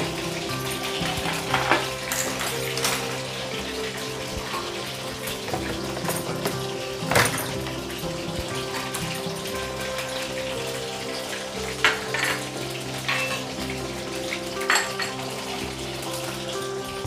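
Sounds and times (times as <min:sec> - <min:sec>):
background music: 0:00.0 - 0:17.0
deep-frying sizzle: 0:00.0 - 0:17.0.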